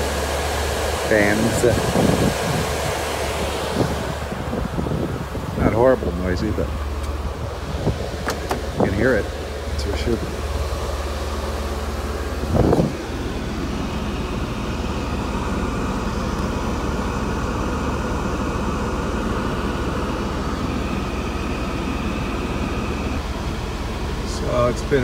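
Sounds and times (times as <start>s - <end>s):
car engine idling: 0.0s - 25.0s
electric cooling fans running: 0.0s - 25.0s.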